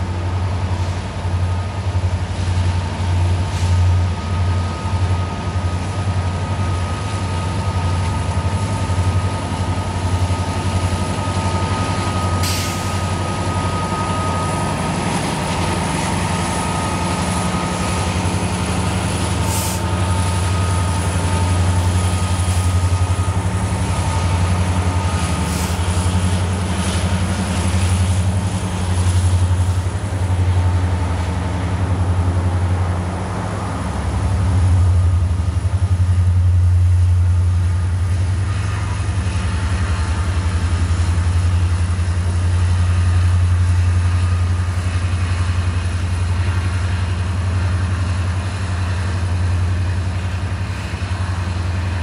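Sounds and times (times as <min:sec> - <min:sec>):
diesel locomotive engines droning: 0:00.0 - 0:52.0.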